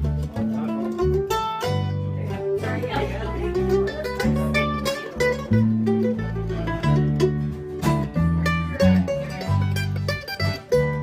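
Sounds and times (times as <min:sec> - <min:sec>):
acoustic backing notes: 0:00.0 - 0:11.0
mandolin picking melody: 0:00.0 - 0:11.0.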